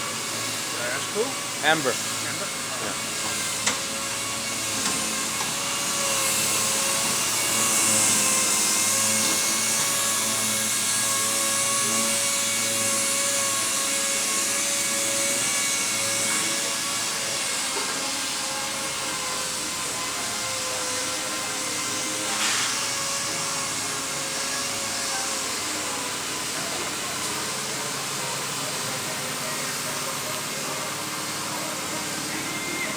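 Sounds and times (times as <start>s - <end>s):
electric motor whining: 0.0s - 32.9s.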